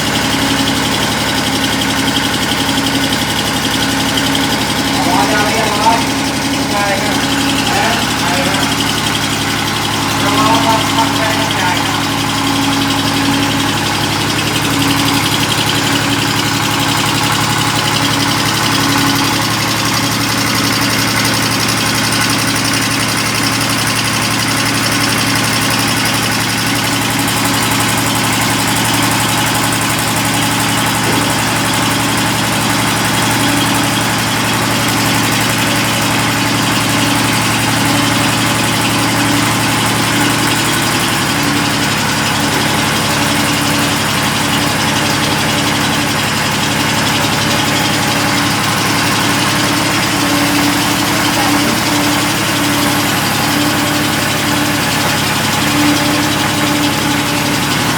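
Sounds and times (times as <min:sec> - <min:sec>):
machinery motor humming: 0:00.0 - 0:57.9.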